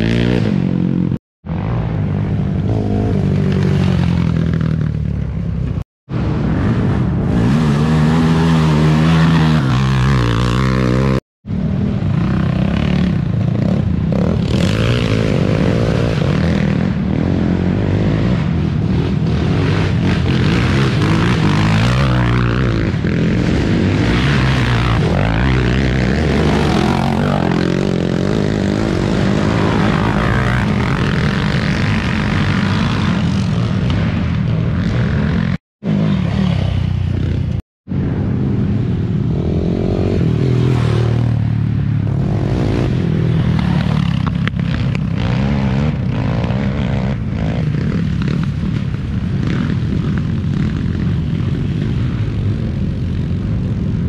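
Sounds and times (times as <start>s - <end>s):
quad engines running: 0.0s - 54.0s.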